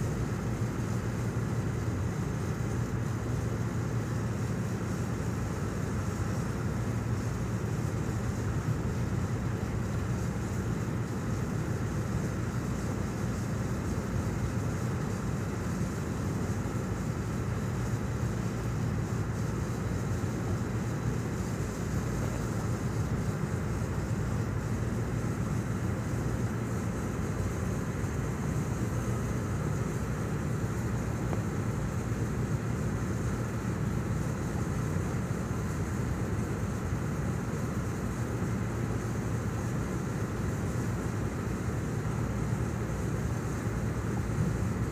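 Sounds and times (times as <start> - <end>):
faint hiss: 0.0 - 44.9
ship engine rumble: 0.0 - 44.9.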